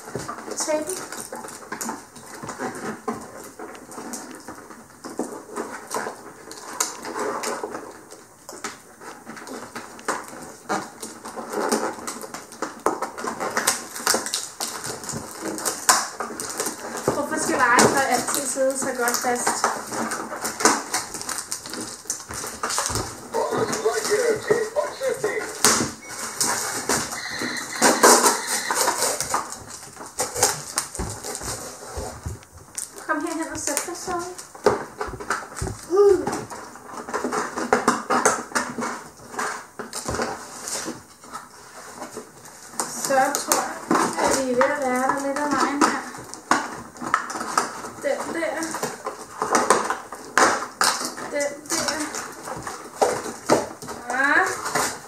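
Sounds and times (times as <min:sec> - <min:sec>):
fingers scratching packing tape: 0:00.0 - 0:55.0
hands rustling on cardboard: 0:00.0 - 0:55.0
tape ripping: 0:00.0 - 0:55.0.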